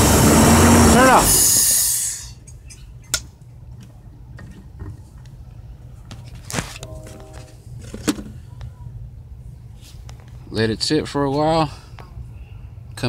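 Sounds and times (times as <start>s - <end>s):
low steady hum: 1.4s - 13.0s.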